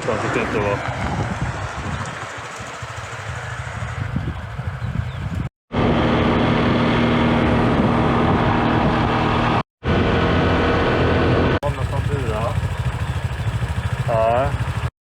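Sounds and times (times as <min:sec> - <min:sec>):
rushing wind noise: 0:00.0 - 0:14.0
motorbike engine running: 0:00.0 - 0:14.9.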